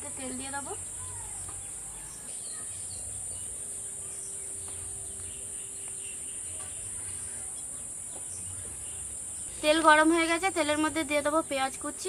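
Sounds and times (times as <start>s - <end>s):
crickets chirping: 0.0s - 12.0s
faint bird chirps: 0.1s - 11.7s.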